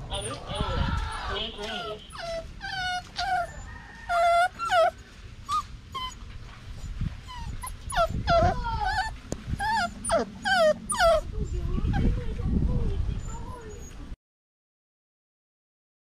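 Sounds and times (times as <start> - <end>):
puppies whimpering and yipping: 0.2 - 14.2.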